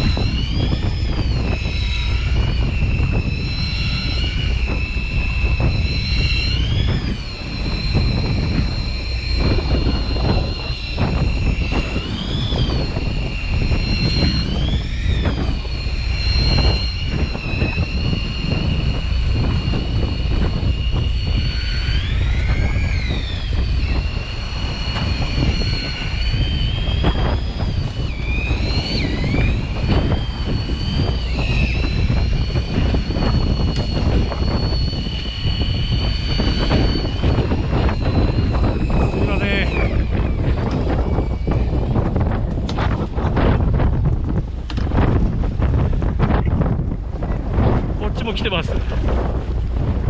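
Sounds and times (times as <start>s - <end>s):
boat engine rumbling: 0.0s - 50.0s
high whine swooping in pitch: 0.0s - 50.0s
wind on microphone: 0.0s - 50.0s.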